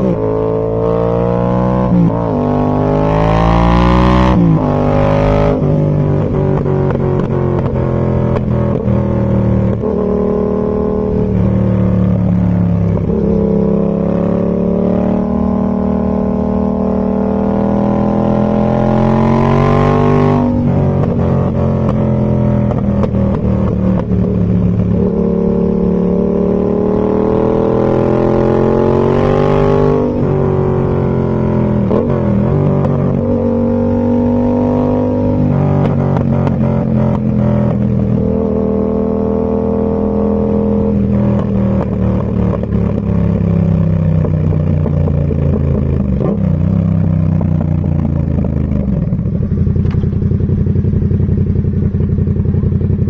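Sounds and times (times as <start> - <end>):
motorcycle engine revving through gears: 0.0 - 53.0.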